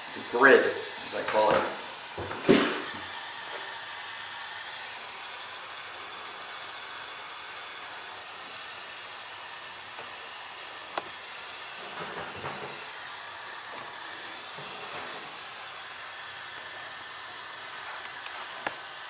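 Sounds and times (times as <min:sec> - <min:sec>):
heat gun blowing: 0:00.0 - 0:19.0.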